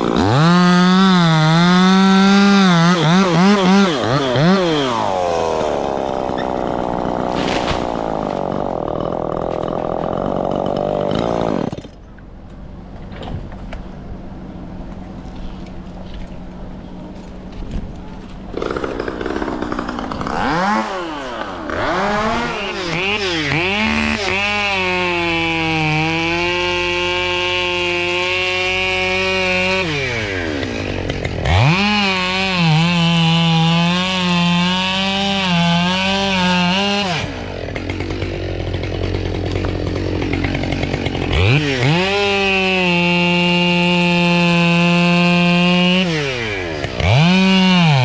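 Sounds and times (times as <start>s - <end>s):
chainsaw engine revving: 0.0s - 12.0s, 18.5s - 48.0s.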